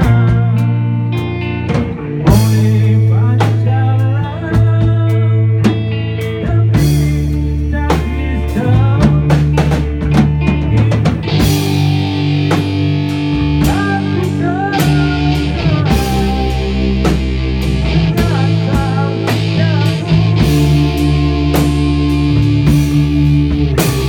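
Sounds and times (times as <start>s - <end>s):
drum kit beat: 0.0s - 24.0s
electric bass: 0.0s - 24.0s
electric guitar bending notes: 0.0s - 24.0s.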